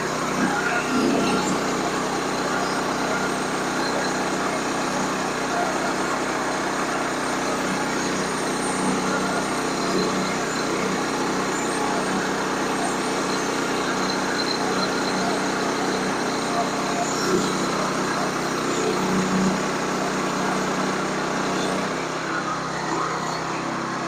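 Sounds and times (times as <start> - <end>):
sawmill engine droning: 0.0 - 24.0.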